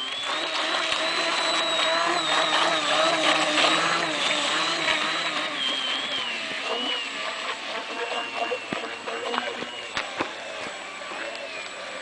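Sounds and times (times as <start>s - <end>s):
rc boat motor whine: 0.0s - 12.0s.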